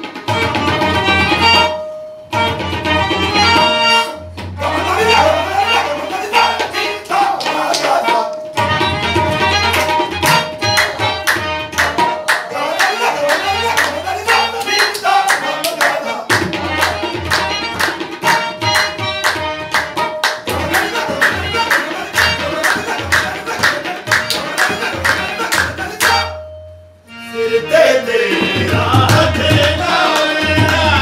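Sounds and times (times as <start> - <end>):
tabla playing: 0.0 - 26.9, 28.2 - 31.0
harmonium chords: 0.0 - 31.0.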